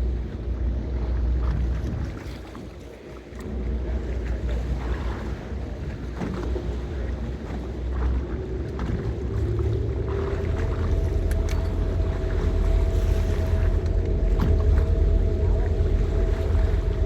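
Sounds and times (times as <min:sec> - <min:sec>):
wind noise on microphone: 0:00.0 - 0:02.8, 0:03.8 - 0:17.0
boat engine humming: 0:00.0 - 0:17.0.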